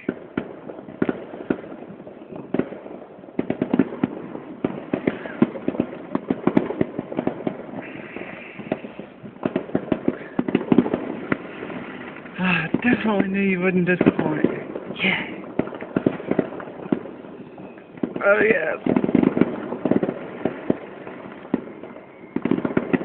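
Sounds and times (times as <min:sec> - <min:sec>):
fireworks cracking and popping: 0:00.0 - 0:23.0.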